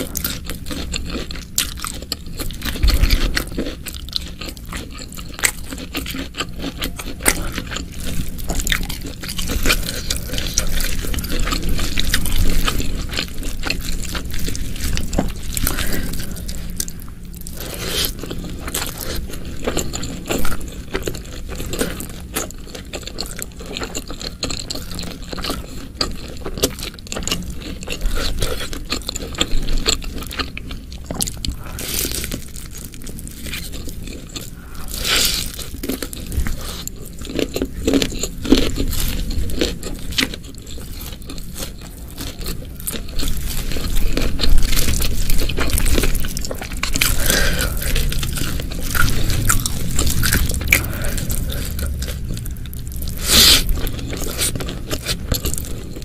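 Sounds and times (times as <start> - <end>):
person chewing and biting food: 0.0 - 56.0.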